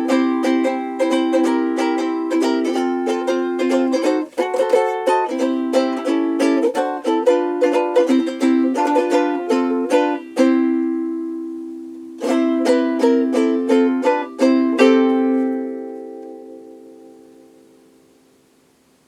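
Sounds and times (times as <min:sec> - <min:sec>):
ukulele plucked melody and chords: 0:00.0 - 0:18.8.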